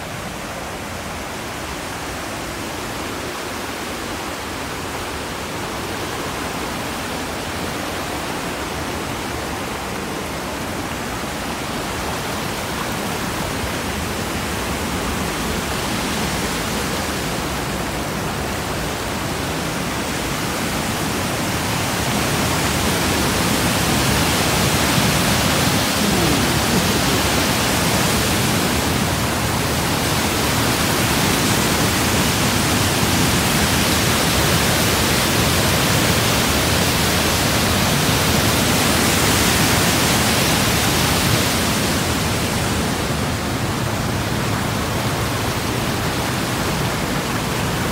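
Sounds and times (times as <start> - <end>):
rushing white water: 0.0 - 47.9.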